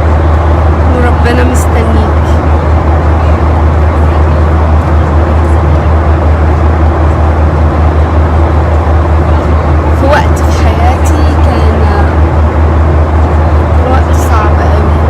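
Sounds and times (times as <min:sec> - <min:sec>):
jet engine cabin drone: 0:00.0 - 0:15.0.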